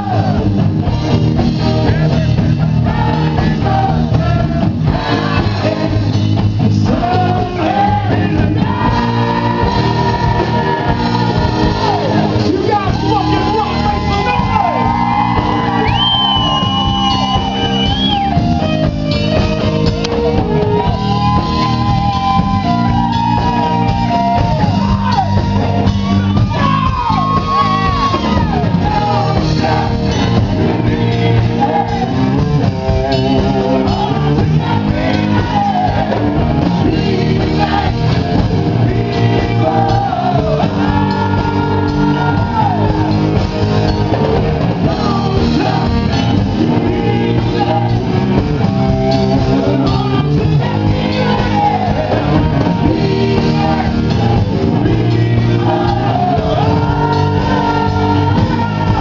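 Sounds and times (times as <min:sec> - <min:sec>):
amplified guitar: 0:00.0 - 0:59.0
drum kit: 0:00.0 - 0:59.0
man singing and shouting: 0:01.6 - 0:09.0, 0:10.8 - 0:15.0, 0:20.1 - 0:43.1, 0:44.7 - 0:48.3, 0:49.1 - 0:59.0.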